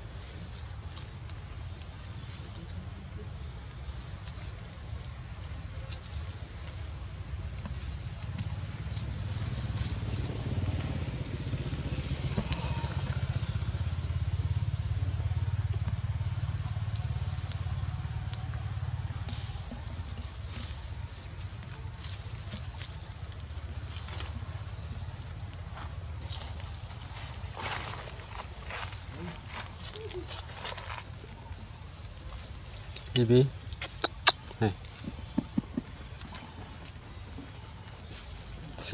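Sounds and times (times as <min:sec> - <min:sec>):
engine rumble: 0:00.0 - 0:38.9.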